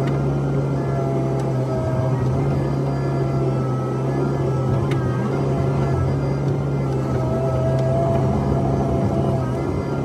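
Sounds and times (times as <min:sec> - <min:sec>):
excavator engine and hydraulics: 0:00.0 - 0:10.0.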